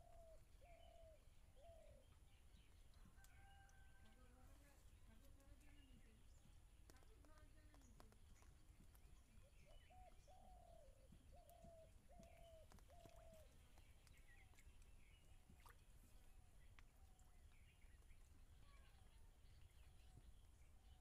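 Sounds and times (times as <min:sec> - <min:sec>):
faint low bird calls: 0:00.0 - 0:21.0
small birds chirping: 0:00.0 - 0:21.0.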